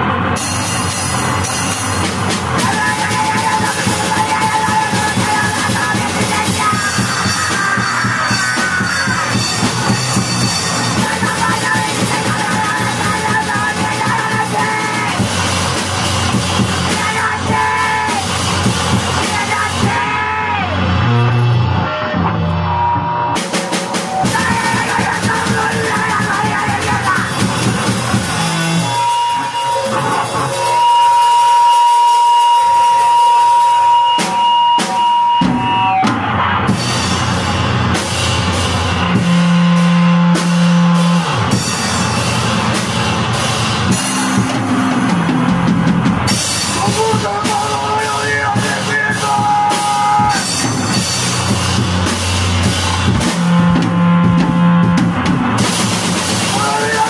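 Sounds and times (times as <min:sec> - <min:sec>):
steady high tone: 0:00.0 - 0:55.1
loud rock band: 0:00.0 - 0:57.0.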